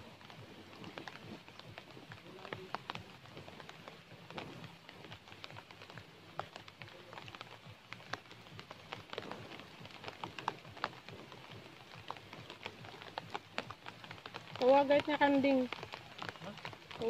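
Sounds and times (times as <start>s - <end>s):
light rain drops tapping: 0.0s - 17.0s.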